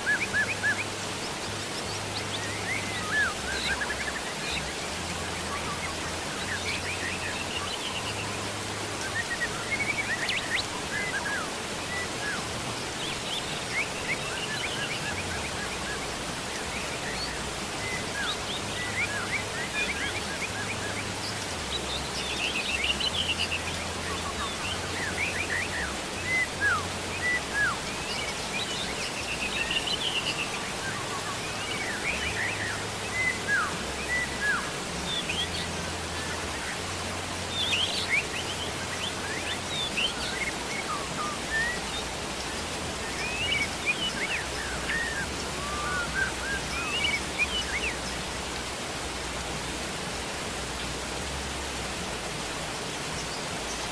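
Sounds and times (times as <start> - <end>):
birds chirping: 0.0 - 53.9
rain hiss: 0.0 - 53.9.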